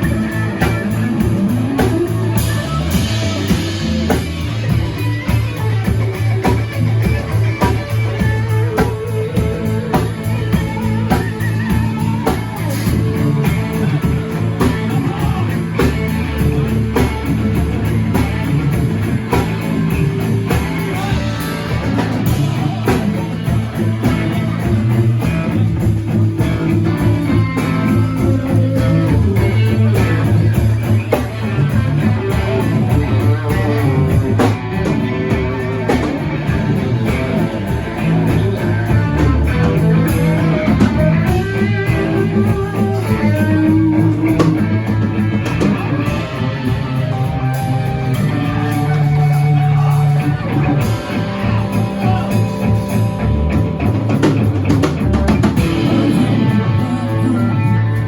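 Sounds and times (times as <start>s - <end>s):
electric guitar: 0.0s - 58.0s
rock band playing: 0.0s - 58.0s.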